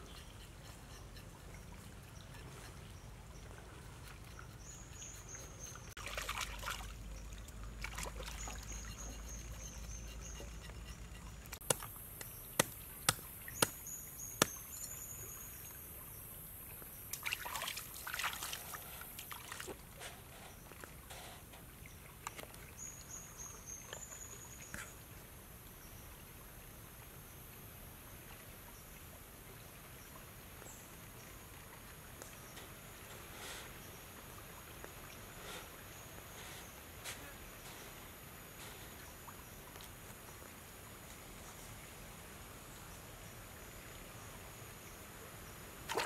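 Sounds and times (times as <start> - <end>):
stream water sloshing and splashing: 0.0 - 46.0.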